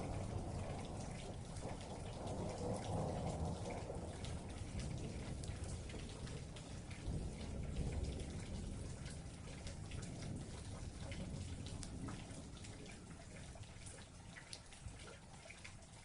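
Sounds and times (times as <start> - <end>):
raindrops ticking on a surface: 0.0 - 16.0
steady rain: 0.0 - 16.0.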